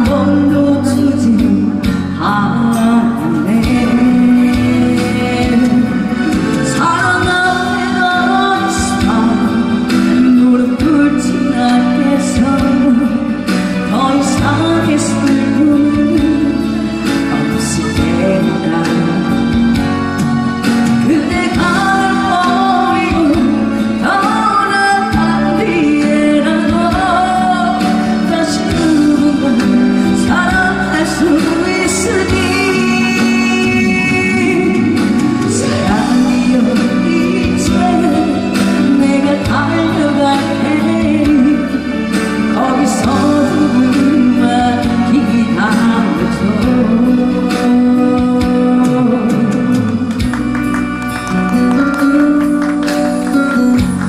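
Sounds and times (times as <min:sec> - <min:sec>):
song with singing voice: 0:00.0 - 0:54.0.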